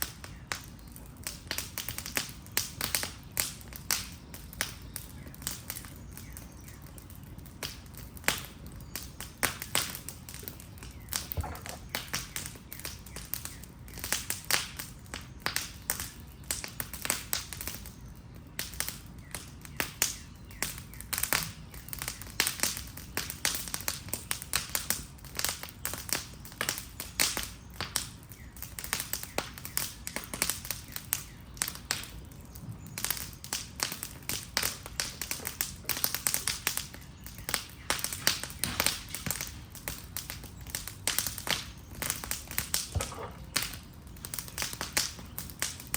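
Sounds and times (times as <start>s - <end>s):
fire crackling and popping: 0.0s - 45.9s
low fire rumble: 0.0s - 45.9s.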